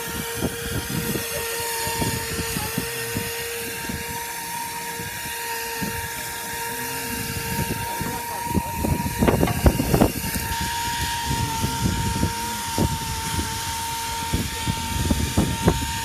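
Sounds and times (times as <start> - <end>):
spray gun high whine: 0.0 - 16.0.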